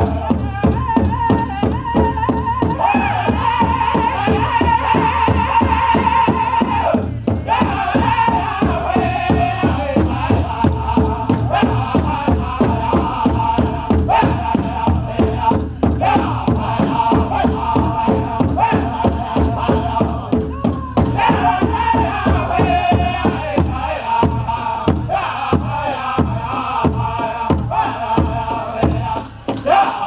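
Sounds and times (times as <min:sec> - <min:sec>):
big drum beating: 0:00.0 - 0:29.8
group singing together: 0:00.0 - 0:30.0.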